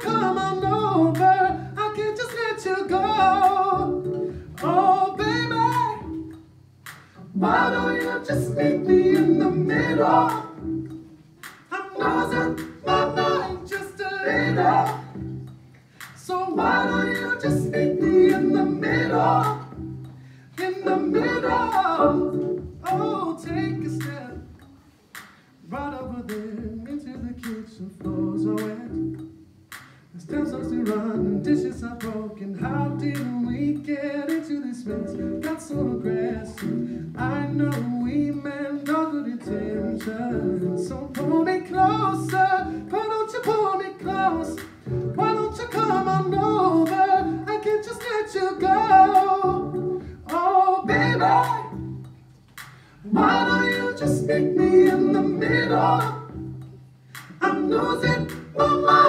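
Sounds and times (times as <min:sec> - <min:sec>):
man singing a cappella: 0:00.0 - 0:04.0, 0:04.6 - 0:06.1, 0:07.2 - 0:10.6, 0:11.7 - 0:15.1, 0:16.2 - 0:19.7, 0:20.6 - 0:24.7, 0:25.6 - 0:29.1, 0:30.2 - 0:51.8, 0:53.0 - 0:56.3, 0:57.4 - 0:59.0
clicking beat: 0:00.0 - 0:32.2, 0:34.3 - 0:38.2, 0:43.4 - 0:50.5, 0:51.4 - 0:59.0
layered vocal parts: 0:00.0 - 0:59.0.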